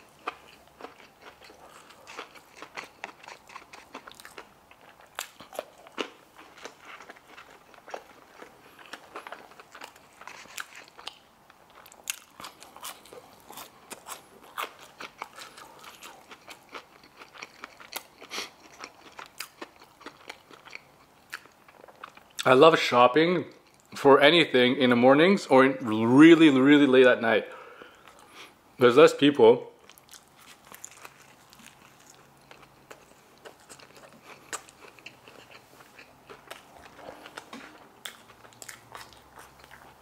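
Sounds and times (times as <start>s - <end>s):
chewing crispy fried food: 0.0s - 22.6s, 23.5s - 24.0s, 29.7s - 40.0s.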